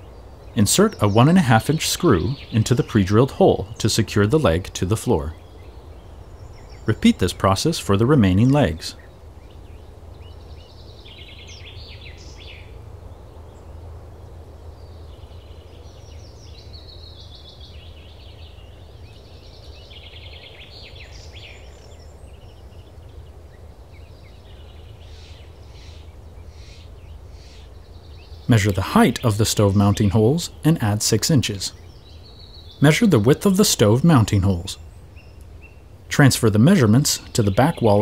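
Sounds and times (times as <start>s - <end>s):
birds chirping and trilling: 0.0s - 38.0s.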